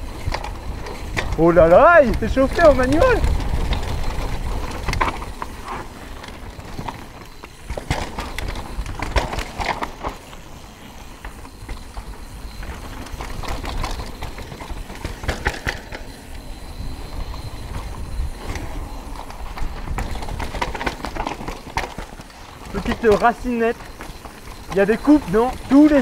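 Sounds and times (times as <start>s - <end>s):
bike rattling over bumps: 0.0s - 26.0s
tyres rumbling over dirt: 0.0s - 26.0s.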